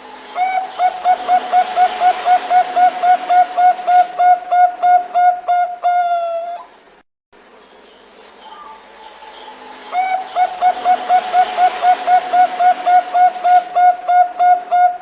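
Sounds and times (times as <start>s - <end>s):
steady hiss: 0.0s - 15.0s
dove cooing: 0.1s - 6.7s, 8.5s - 15.0s.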